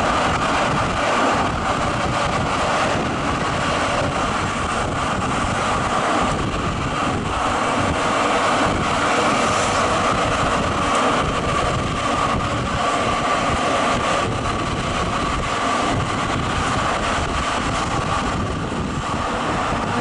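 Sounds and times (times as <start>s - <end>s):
tram running with whine: 0.0s - 20.0s
wind on microphone: 0.0s - 20.0s.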